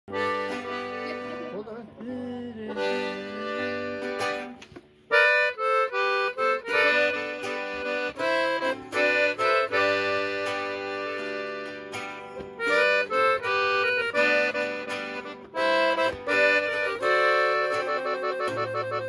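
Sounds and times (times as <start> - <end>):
accordion chords and melody: 0.1 - 19.0
strummed guitar: 0.1 - 19.0.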